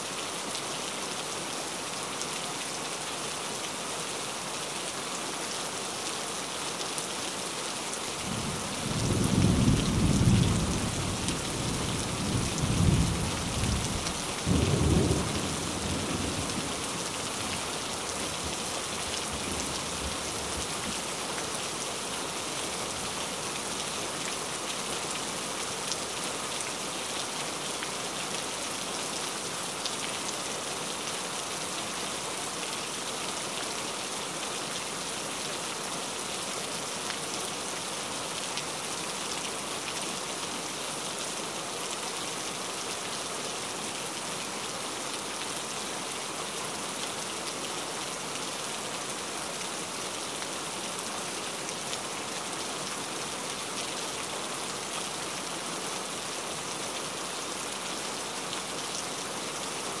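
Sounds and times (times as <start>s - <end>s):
rain falling on trees: 0.0s - 60.0s.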